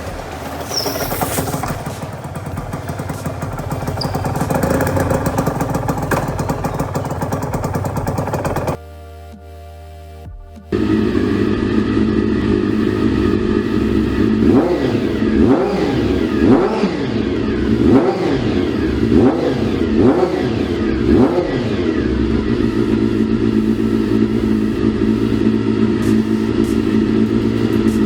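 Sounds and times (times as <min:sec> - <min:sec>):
motorcycle engine revving: 0:00.0 - 0:08.8, 0:10.7 - 0:28.0.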